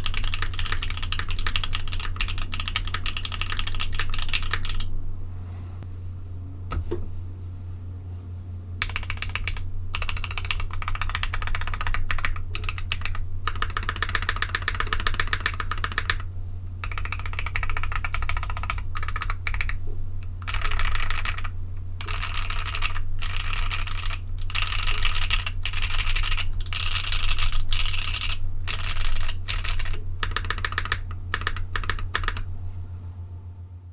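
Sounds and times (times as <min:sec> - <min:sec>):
mechanical keyboard typing: 0:00.0 - 0:04.9, 0:08.8 - 0:16.2, 0:16.8 - 0:19.8, 0:20.4 - 0:32.5
steady low hum: 0:00.0 - 0:33.9.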